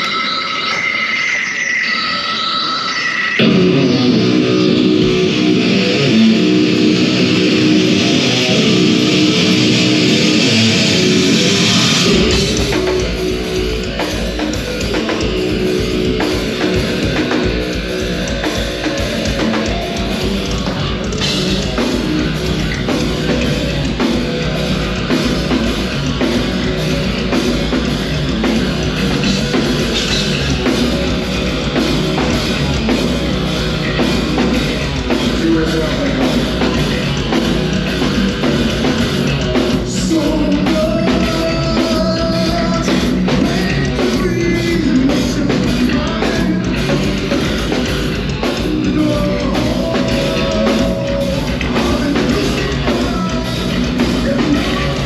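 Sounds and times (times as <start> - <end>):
distorted electric guitars: 0.0 - 55.0
drums fast beat: 3.4 - 55.0.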